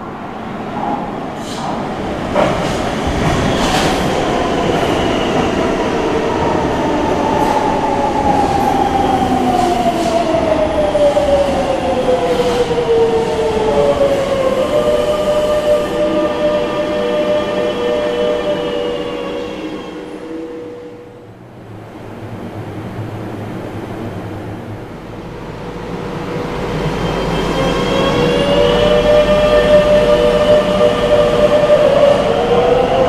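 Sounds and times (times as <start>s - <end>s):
electric train whine: 2.6s - 33.0s.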